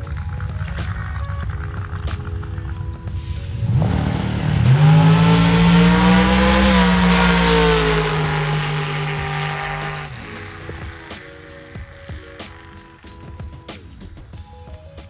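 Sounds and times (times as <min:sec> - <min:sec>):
drag car engine at full throttle: 0:00.0 - 0:14.3.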